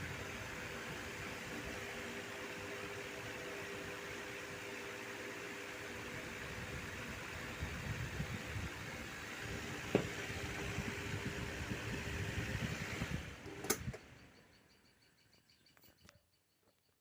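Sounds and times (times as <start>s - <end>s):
table fan whirring: 0.0s - 14.5s.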